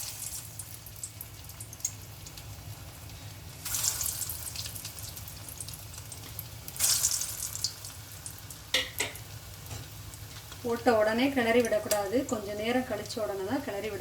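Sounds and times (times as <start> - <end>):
bursts of sizzle as food drops: 0.0 - 14.0
hot oil crackling and sizzling: 0.0 - 14.0.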